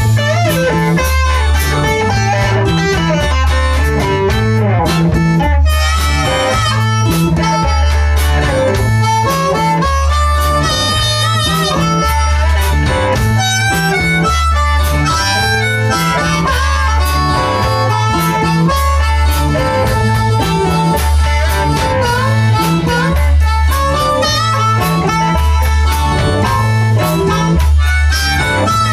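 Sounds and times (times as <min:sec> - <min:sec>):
bass and guitar riff: 0:00.0 - 0:28.9
harmonica melody: 0:00.0 - 0:28.9.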